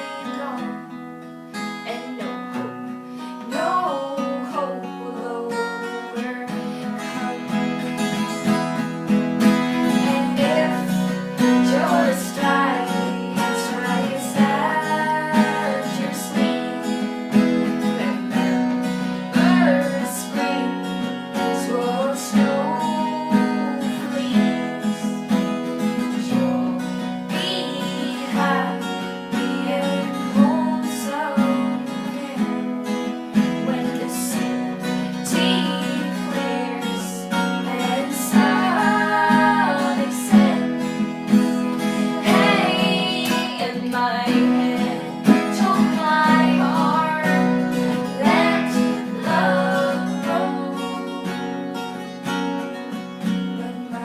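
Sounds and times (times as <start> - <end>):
acoustic guitar strumming: 0.0 - 54.0
person singing: 1.8 - 8.3, 9.6 - 25.4, 26.0 - 33.0, 33.6 - 51.4, 53.6 - 54.0.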